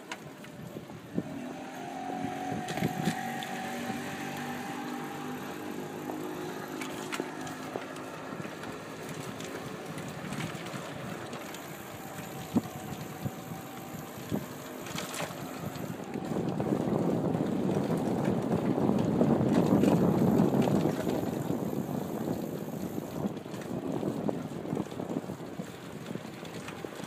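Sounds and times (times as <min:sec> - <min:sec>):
wind rushing over microphone: 0:00.6 - 0:27.0.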